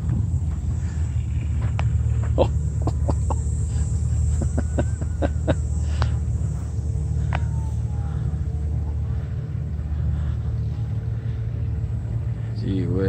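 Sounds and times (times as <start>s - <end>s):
large engine rumbling: 0.0s - 13.0s.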